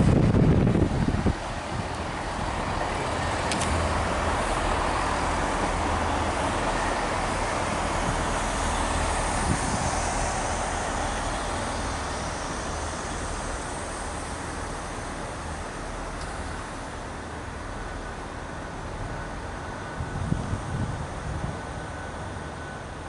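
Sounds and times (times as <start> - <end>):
train engine hum: 0.0 - 23.0
train wheels rumbling on rails: 0.0 - 23.0.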